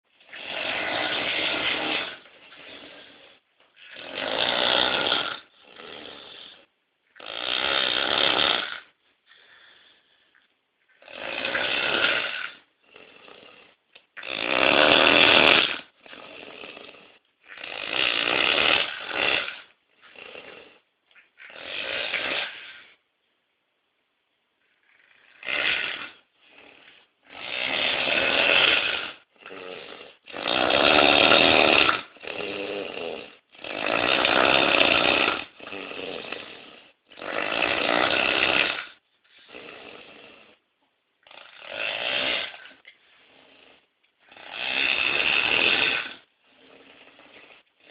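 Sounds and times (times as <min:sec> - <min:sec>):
heavy snoring: 0:00.2 - 0:23.0, 0:24.7 - 0:47.9.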